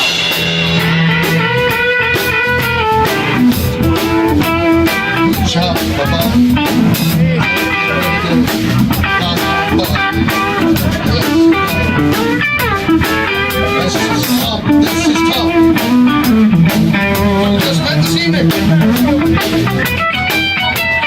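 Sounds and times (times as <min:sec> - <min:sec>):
blues band playing: 0:00.0 - 0:21.0.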